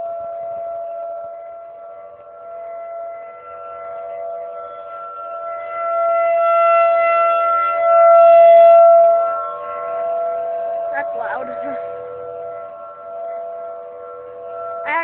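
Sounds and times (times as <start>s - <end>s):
tornado warning siren: 0.0s - 15.0s.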